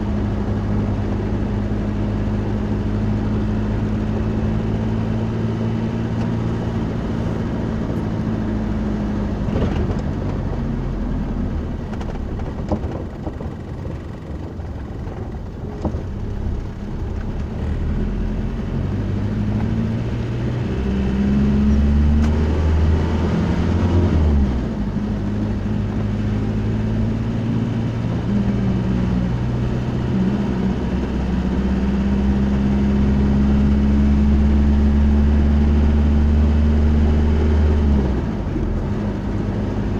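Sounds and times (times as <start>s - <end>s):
road rumble: 0.0s - 39.9s
vehicle engine droning: 0.0s - 39.9s.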